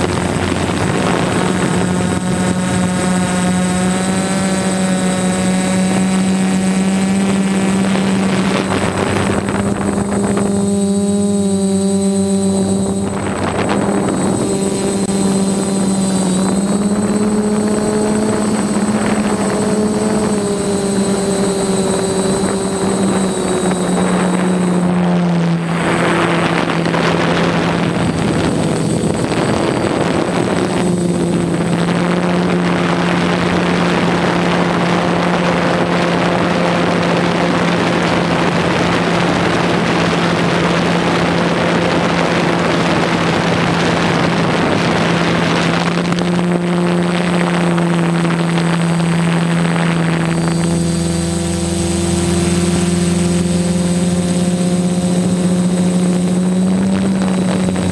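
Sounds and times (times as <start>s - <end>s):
drone motors buzzing: 0.0s - 57.9s.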